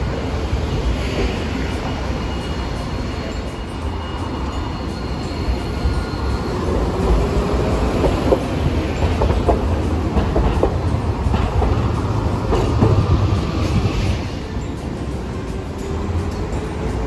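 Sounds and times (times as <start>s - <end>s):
streetcar rumbling past: 0.0s - 17.0s.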